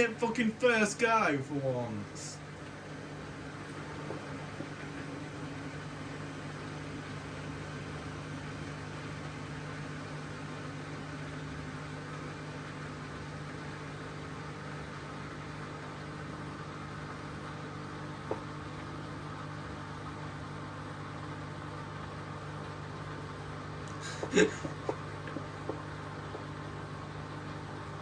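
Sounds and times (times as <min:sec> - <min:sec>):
washing machine spinning: 0:00.0 - 0:28.0.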